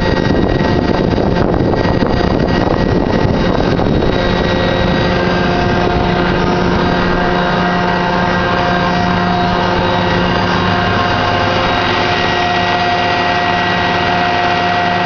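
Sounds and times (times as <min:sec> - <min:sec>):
machine drone: 0:00.0 - 0:15.0
rattling rush: 0:00.0 - 0:15.0.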